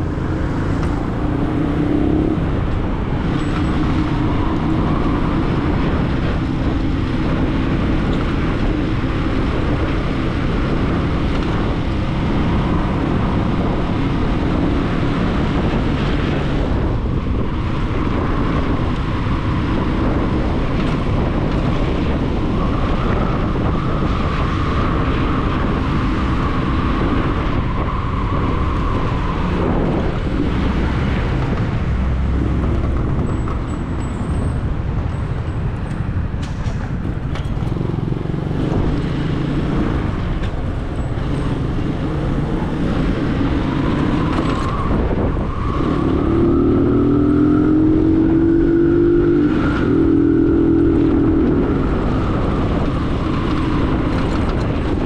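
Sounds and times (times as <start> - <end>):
vehicle engine and road noise: 0.0 - 55.0
wind on microphone: 0.0 - 55.0.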